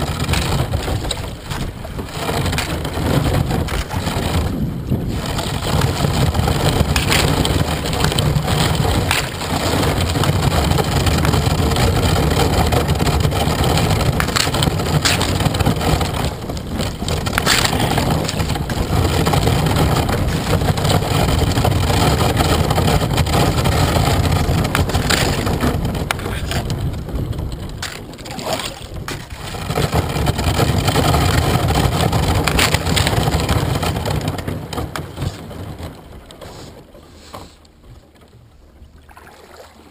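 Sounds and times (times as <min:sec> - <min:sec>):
kayak hull scraping through ice: 0:00.0 - 0:39.9
ice cracking: 0:00.1 - 0:34.0.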